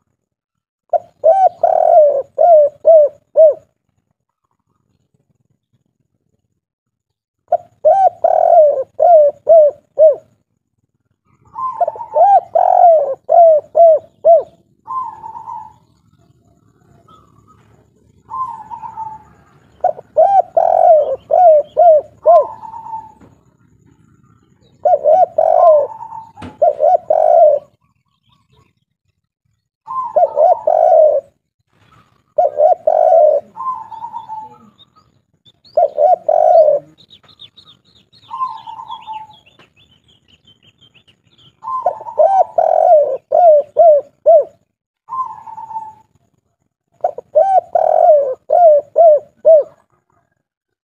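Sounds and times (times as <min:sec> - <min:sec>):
dove cooing: 0:00.9 - 0:03.8, 0:07.5 - 0:10.4, 0:11.2 - 0:28.7, 0:29.8 - 0:39.8, 0:40.5 - 0:46.4, 0:47.0 - 0:50.5.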